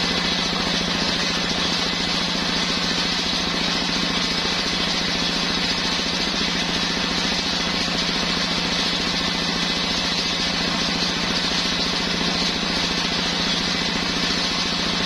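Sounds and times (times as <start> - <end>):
engine-driven circular saw running: 0.0 - 15.0.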